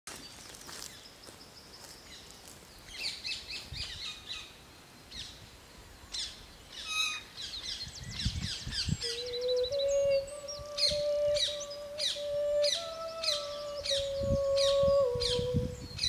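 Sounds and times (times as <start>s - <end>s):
birds chirping and trilling: 0.1s - 16.0s.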